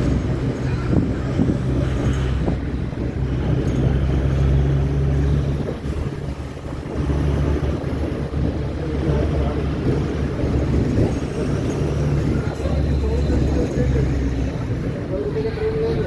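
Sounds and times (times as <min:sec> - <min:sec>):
vehicle engine and road noise: 0:00.0 - 0:16.0
wind buffeting microphone: 0:00.0 - 0:16.0.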